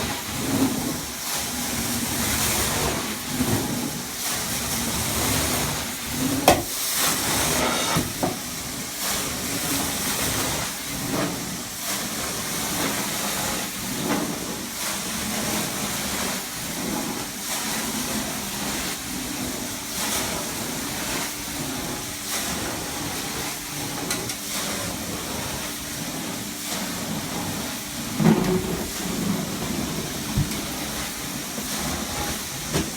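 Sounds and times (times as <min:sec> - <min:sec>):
steam cleaner wand hissing: 0:00.0 - 0:32.9.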